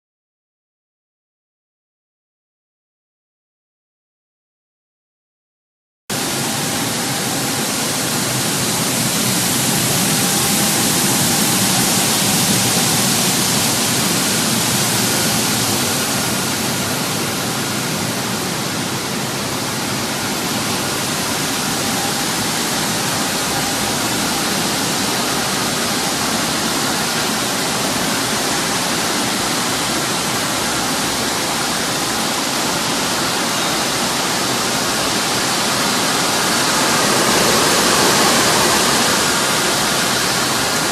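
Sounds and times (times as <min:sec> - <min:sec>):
conveyors running: 0:06.1 - 0:40.9
washing machine churning water: 0:06.2 - 0:40.9.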